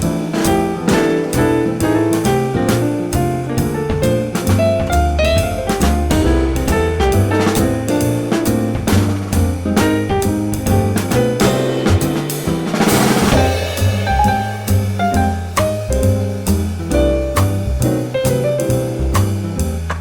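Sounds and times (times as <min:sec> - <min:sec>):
drum kit beat: 0:00.0 - 0:20.0
jazz piano: 0:00.0 - 0:20.0.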